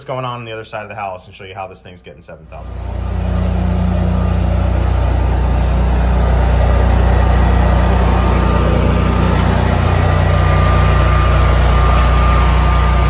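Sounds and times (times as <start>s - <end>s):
generator engine hum: 2.4s - 13.0s.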